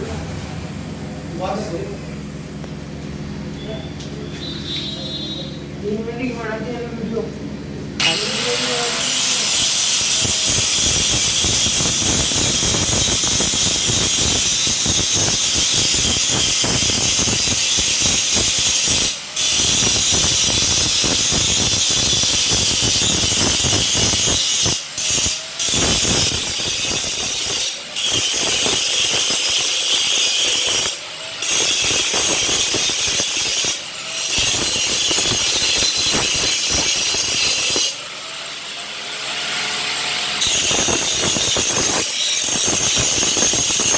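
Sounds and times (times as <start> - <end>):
angle grinder grinding metal: 4.3 - 5.6, 8.0 - 43.9.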